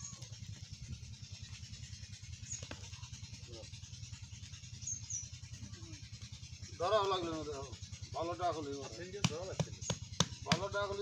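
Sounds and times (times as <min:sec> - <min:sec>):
pulsing low hum: 0:00.0 - 0:11.0.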